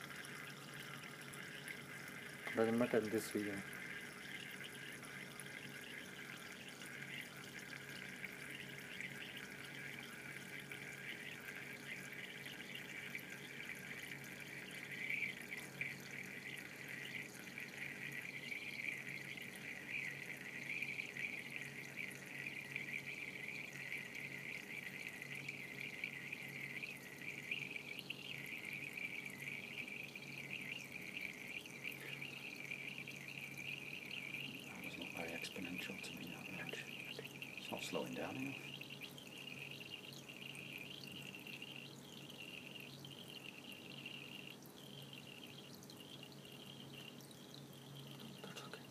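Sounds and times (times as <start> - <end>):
water trickling from burette: 0.0 - 48.9.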